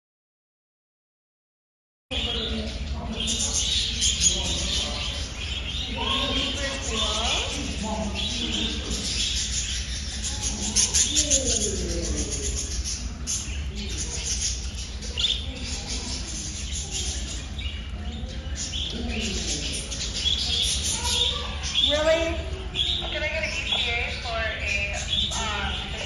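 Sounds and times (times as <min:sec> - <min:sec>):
small birds chirping and twittering: 0:02.1 - 0:26.0
steady low hum: 0:02.1 - 0:26.0.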